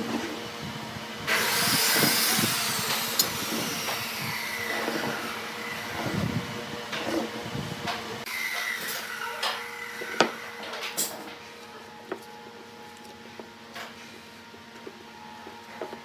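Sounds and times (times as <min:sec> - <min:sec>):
workshop machine hissing whine: 0:00.0 - 0:16.0.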